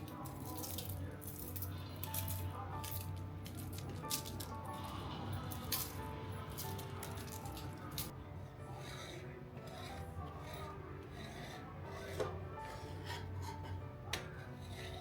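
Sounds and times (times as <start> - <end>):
scraping and rubbing: 0.0 - 15.0
soft background music: 0.0 - 15.0.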